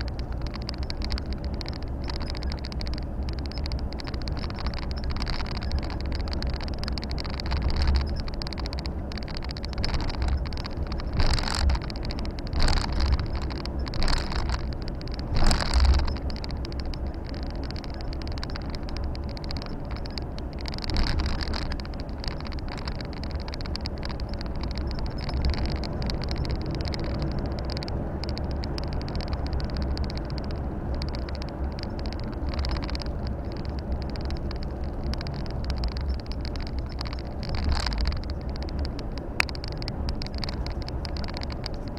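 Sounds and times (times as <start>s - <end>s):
truck diesel engine rumble: 0.0s - 41.9s.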